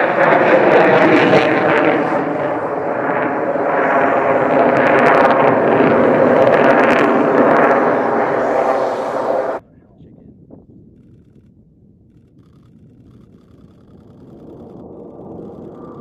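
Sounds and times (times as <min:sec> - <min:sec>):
jet engine crackle: 0:00.0 - 0:09.6, 0:12.2 - 0:16.0
jet engine roar: 0:00.0 - 0:10.1, 0:12.9 - 0:16.0.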